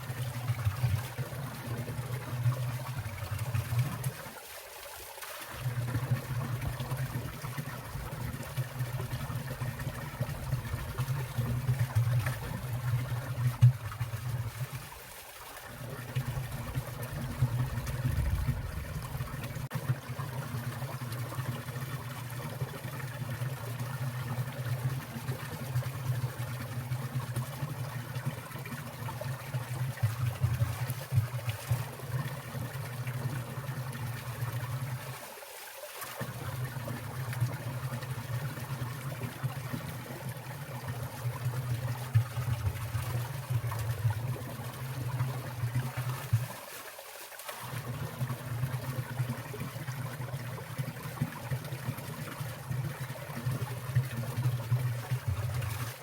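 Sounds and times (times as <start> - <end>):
stream trickling over ice: 0.0 - 56.0.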